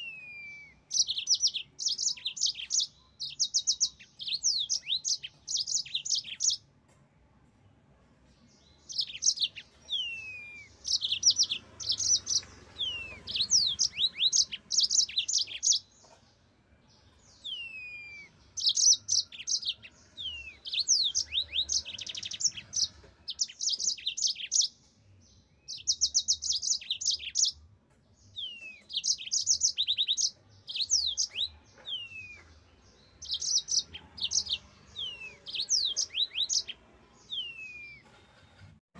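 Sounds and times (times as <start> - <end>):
canary singing trills: 0.0 - 6.7, 8.6 - 16.3, 16.9 - 38.2.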